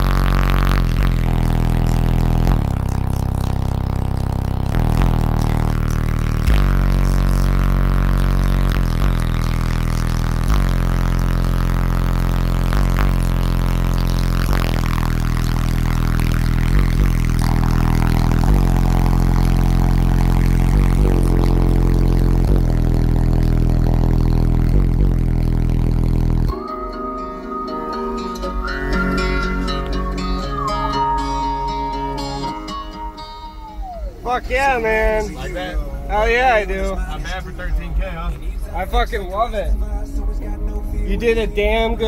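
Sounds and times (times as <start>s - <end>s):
bass-heavy music: 0.0s - 42.0s.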